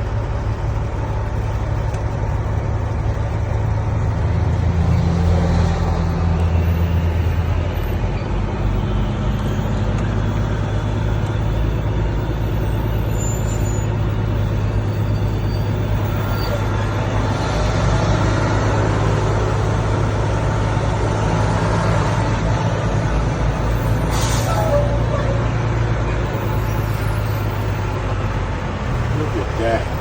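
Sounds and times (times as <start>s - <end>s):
heavy truck engine running: 0.0s - 30.0s
road noise: 0.0s - 30.0s.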